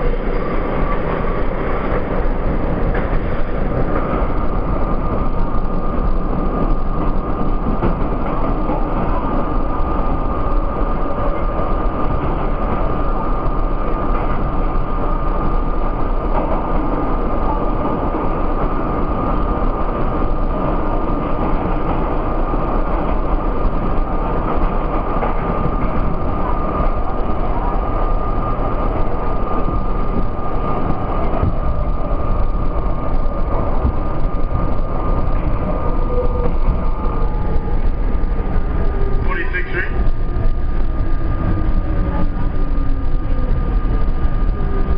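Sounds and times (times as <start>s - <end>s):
subway train wheels rumbling: 0.0s - 44.9s.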